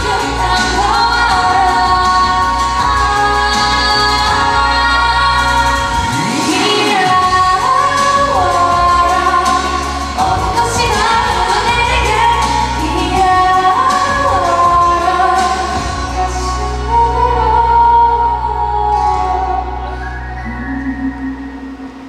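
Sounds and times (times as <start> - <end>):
woman singing a pop ballad: 0.0 - 21.1
backing music: 0.0 - 22.0.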